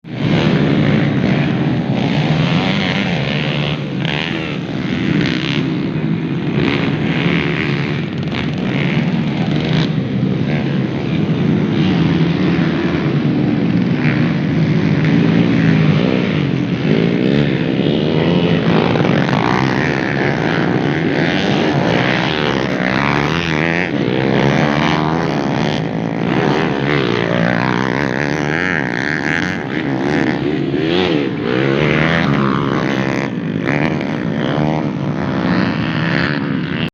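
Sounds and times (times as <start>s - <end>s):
motocross bikes revving: 0.0s - 36.9s.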